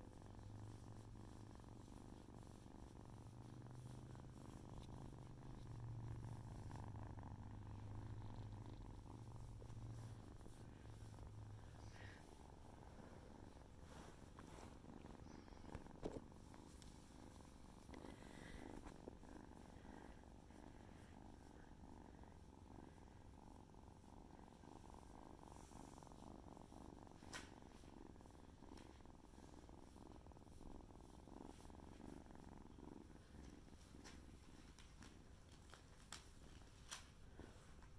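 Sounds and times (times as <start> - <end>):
kitten purring: 0.0 - 37.9.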